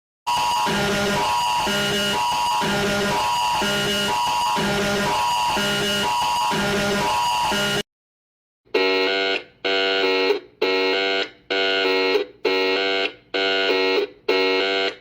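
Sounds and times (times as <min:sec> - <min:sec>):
electronic alarm buzzer: 0:00.3 - 0:07.9, 0:08.7 - 0:15.0.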